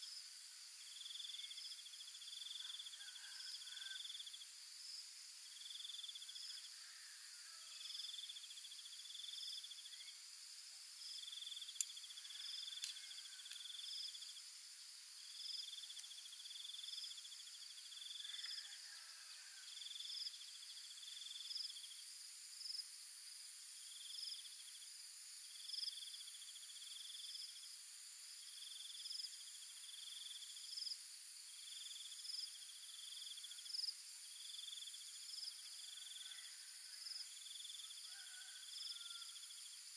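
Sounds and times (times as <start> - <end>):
high-pitched insect hum: 0.0 - 39.9
insects trilling: 0.0 - 39.9.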